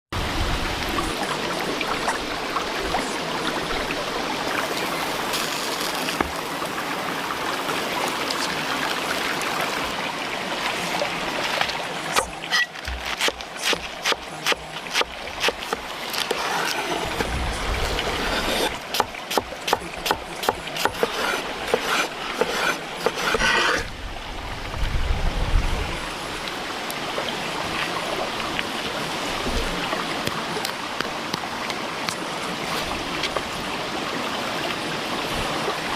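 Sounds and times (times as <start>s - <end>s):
flowing water rushing: 0.2s - 35.9s.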